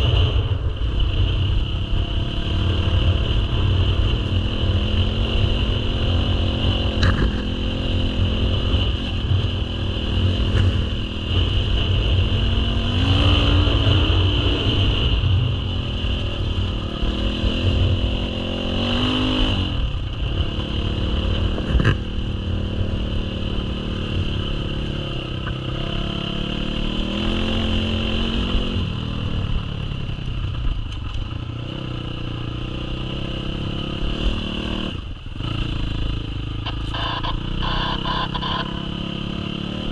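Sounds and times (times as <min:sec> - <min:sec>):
dirt bike engine revving: 0:00.0 - 0:28.9, 0:32.6 - 0:39.9.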